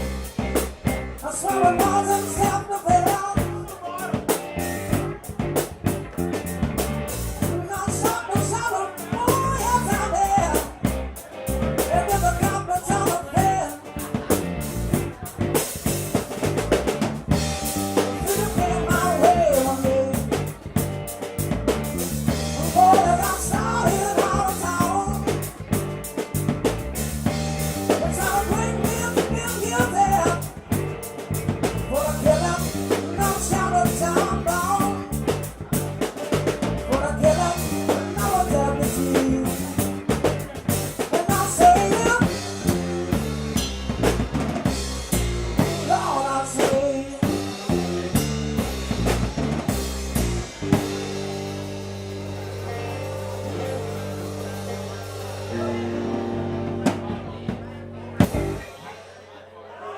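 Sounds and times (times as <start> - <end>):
melodic lead line: 0.0 - 58.7
drum kit and bass: 0.0 - 58.8.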